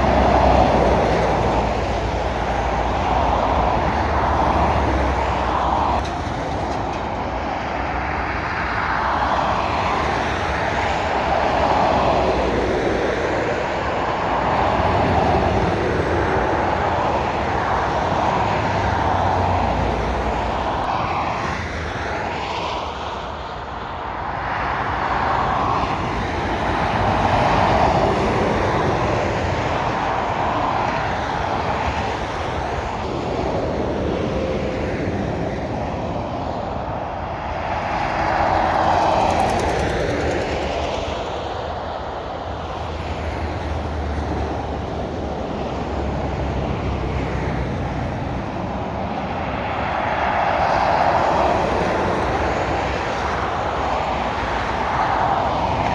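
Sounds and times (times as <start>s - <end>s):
traffic passing: 0.0s - 55.9s.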